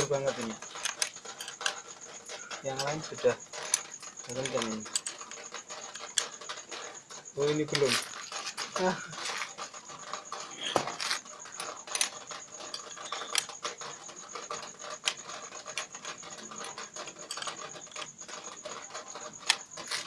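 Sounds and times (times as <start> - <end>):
wrench clinking and scraping on bolts: 0.0 - 20.0.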